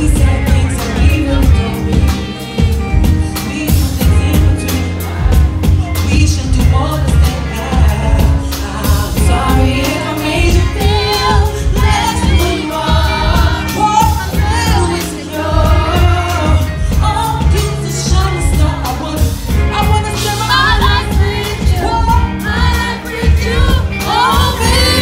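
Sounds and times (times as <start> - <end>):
woman singing with vibrato: 0.0 - 25.0.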